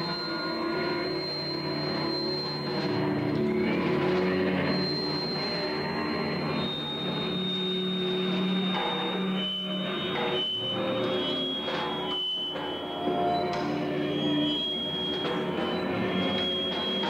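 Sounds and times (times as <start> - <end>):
high whistling tones: 0.0 - 17.0.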